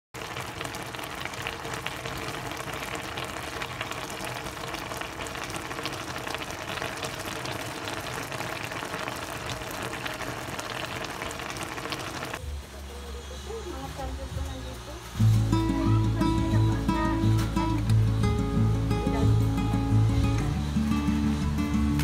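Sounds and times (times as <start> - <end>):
pot bubbling at a boil: 0.1 - 22.0.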